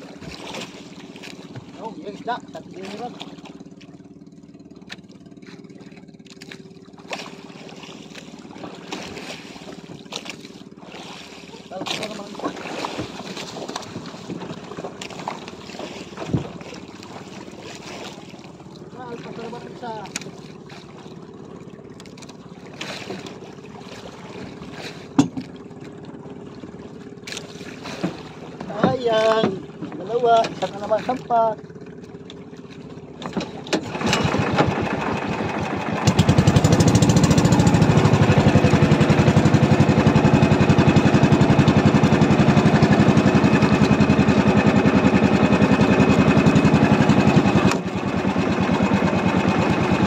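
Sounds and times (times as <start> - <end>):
boat engine running: 0.0 - 50.0
water washing against hull: 0.0 - 50.0.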